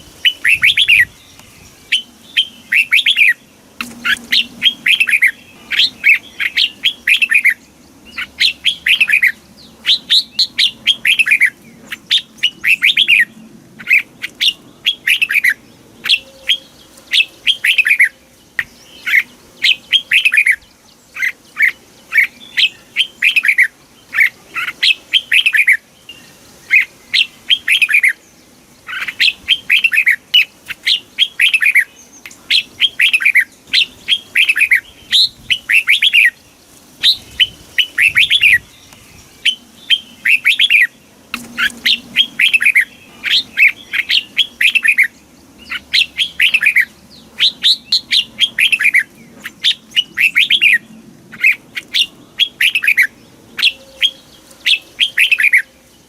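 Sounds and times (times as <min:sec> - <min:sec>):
bird singing whistled notes: 0:00.2 - 0:28.3, 0:28.9 - 0:36.4, 0:37.0 - 0:55.8.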